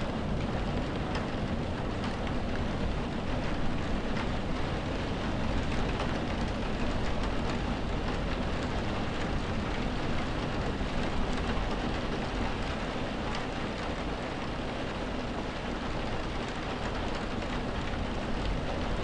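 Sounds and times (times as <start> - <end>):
heavy rain hitting window glass: 0.0 - 19.0.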